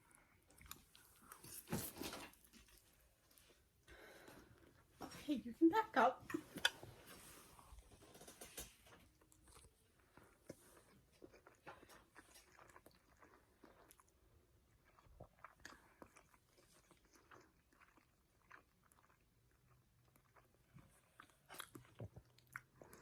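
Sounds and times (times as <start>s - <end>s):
person chewing food: 0.0s - 4.9s, 6.3s - 23.0s.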